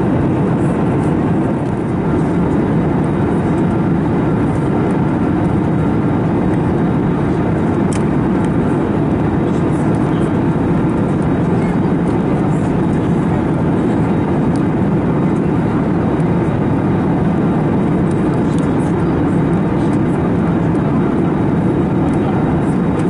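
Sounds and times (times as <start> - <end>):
airliner cabin hum: 0.0 - 23.0.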